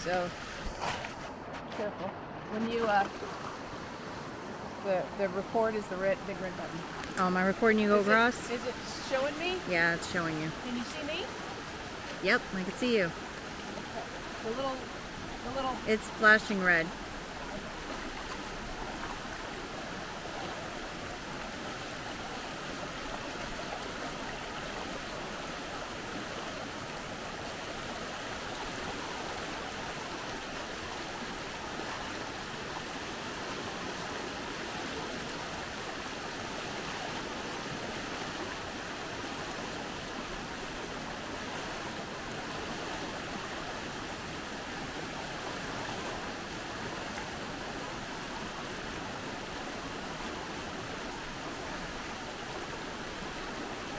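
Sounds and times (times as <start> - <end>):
creek rushing over stones: 0.0 - 53.9.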